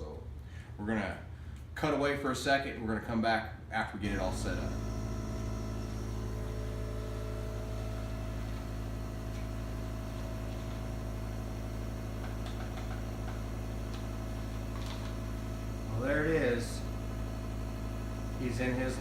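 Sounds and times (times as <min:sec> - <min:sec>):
nebulizer electric hum: 0:03.6 - 0:19.0.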